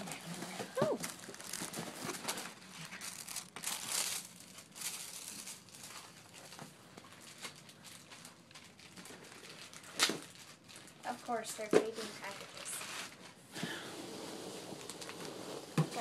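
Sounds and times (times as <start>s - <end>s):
packaging crinkling and rustling: 0.0s - 13.4s, 14.2s - 16.0s.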